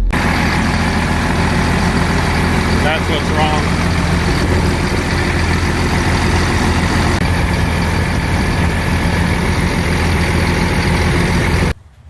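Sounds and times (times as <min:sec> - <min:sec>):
diesel engine droning: 0:00.0 - 0:11.8.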